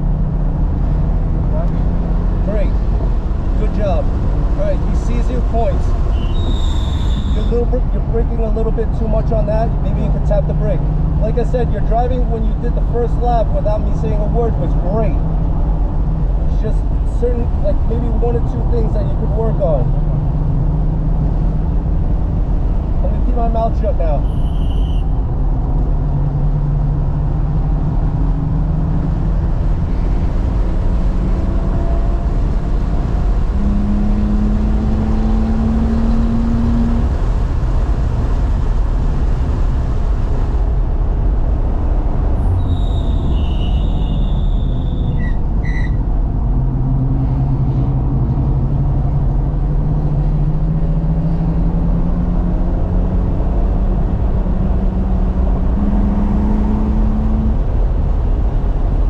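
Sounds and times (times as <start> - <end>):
car engine at speed: 0.0 - 59.0
road and wind noise: 0.0 - 59.0.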